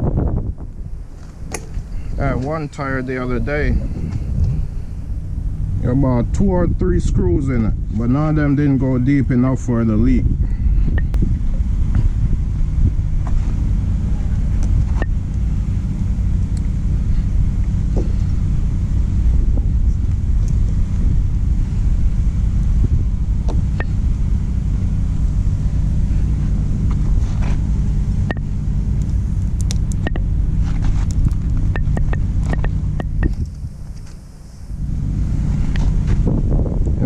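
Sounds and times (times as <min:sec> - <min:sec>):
diesel truck engine idling: 0:00.3 - 0:37.0.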